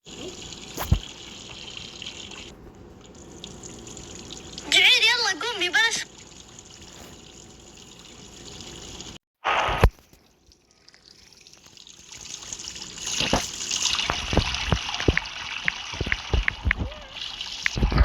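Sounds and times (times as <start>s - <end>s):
water drips and splashes: 0.0s - 9.2s, 10.0s - 18.0s
water trickling: 0.0s - 9.2s, 10.1s - 17.9s.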